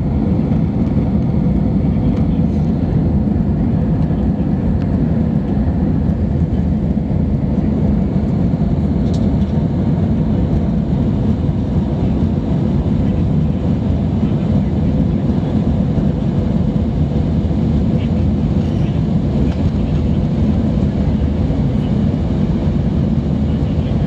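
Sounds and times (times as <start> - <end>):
airliner engines and rushing air: 0.0 - 24.0.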